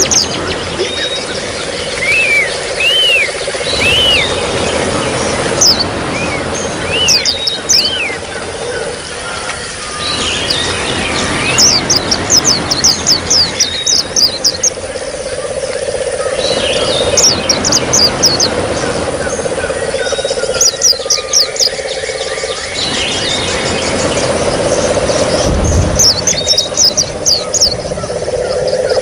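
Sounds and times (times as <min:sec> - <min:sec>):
birds twittering: 0:00.0 - 0:29.0.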